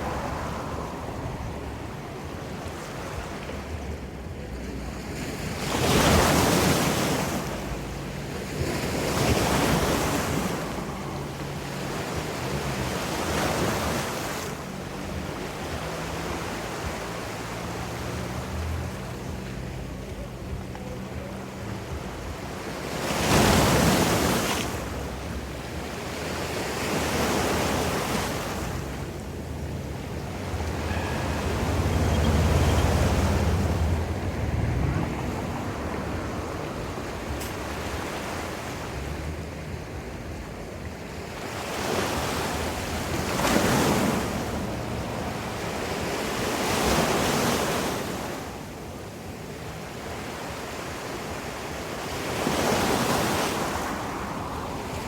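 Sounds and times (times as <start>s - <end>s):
waves breaking and washing in: 0.0s - 55.0s.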